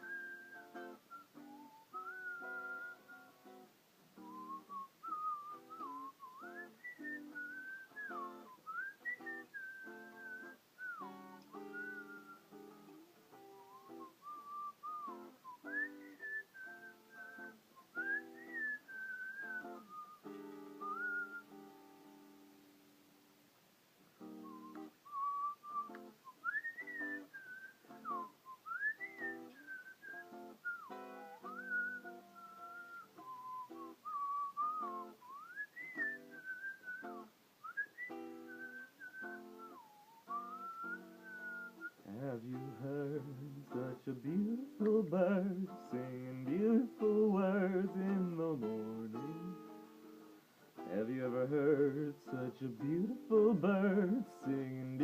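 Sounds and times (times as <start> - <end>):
whistled melody: 0.0 - 3.6, 4.2 - 22.0, 24.2 - 55.0
strummed acoustic guitar: 0.0 - 22.6, 24.2 - 37.3, 38.0 - 55.0.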